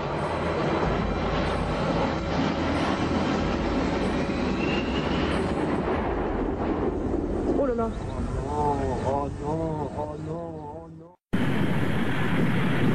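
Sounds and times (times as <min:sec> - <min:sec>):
jet engines roaring: 0:00.0 - 0:10.4, 0:11.4 - 0:12.9.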